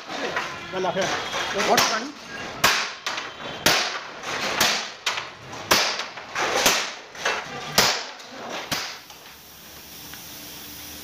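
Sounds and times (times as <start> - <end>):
hammer striking steel frame: 0.0 - 9.0.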